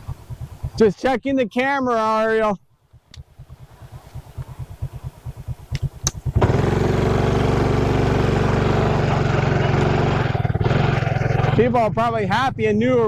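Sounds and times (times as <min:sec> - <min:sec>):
motorcycle engine: 0:00.0 - 0:00.8, 0:02.9 - 0:13.0.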